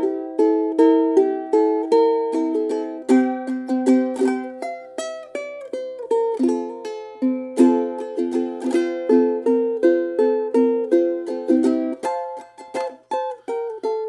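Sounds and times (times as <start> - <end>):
ukulele strumming chords: 0.0 - 14.0.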